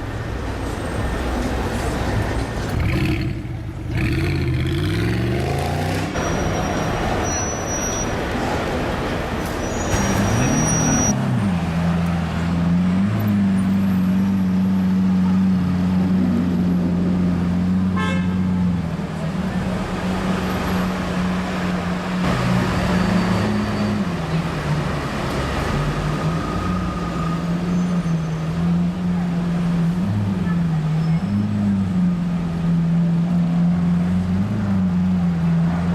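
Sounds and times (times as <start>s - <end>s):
street traffic noise: 0.0s - 35.9s.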